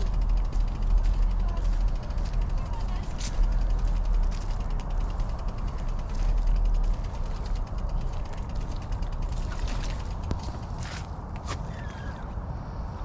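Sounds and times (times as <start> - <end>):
fast mechanical ticking: 0.0 - 11.4.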